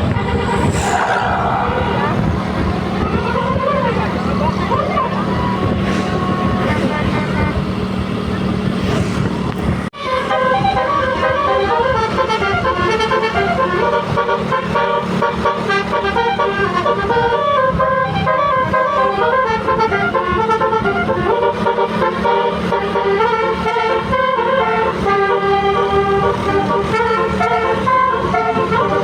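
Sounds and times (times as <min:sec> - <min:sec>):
musical bus horn: 0:00.0 - 0:08.3, 0:10.0 - 0:29.0.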